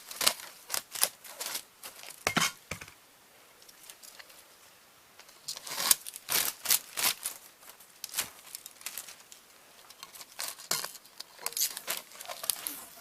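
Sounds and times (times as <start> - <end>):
tape crinkling and rustling: 0.0 - 2.3, 3.6 - 4.4, 5.2 - 13.0.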